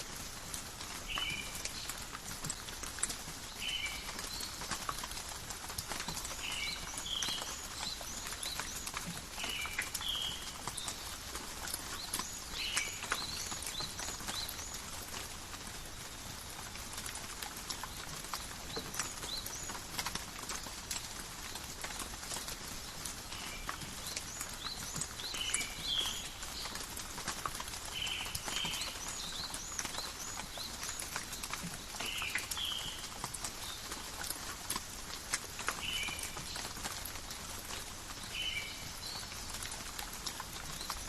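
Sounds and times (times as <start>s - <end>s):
drops ticking and dripping: 0.3s - 41.0s.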